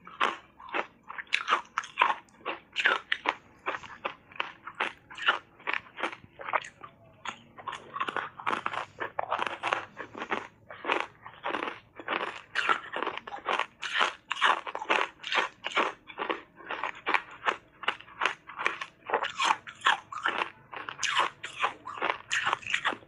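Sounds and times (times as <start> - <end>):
ice crunching between teeth: 0.0 - 23.0.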